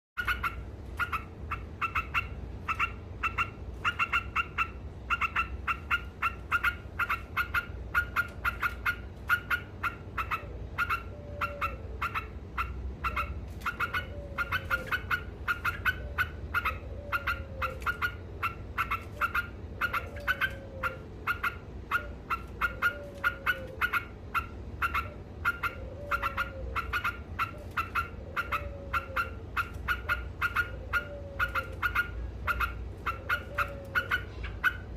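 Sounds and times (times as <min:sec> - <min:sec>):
bird chattering song: 0:00.2 - 0:34.9.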